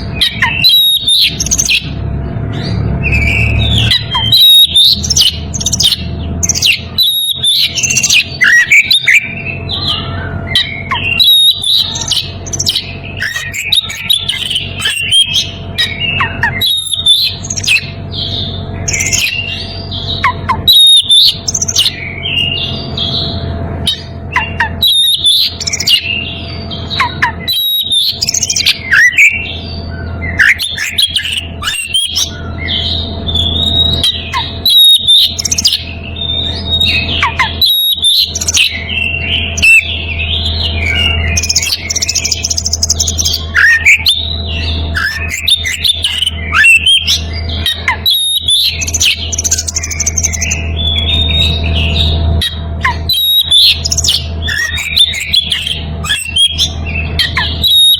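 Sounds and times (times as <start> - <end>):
low hum: 0.0 - 57.9
songbird singing: 0.0 - 57.9.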